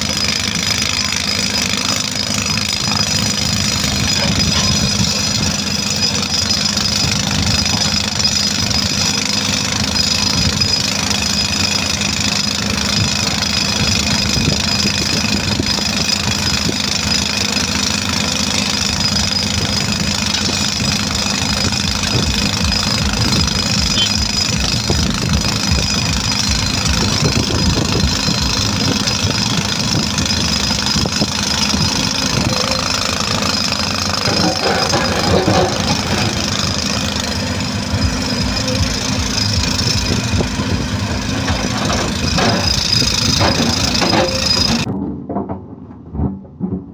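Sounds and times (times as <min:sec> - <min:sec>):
diesel engine running: 0:00.0 - 0:46.8.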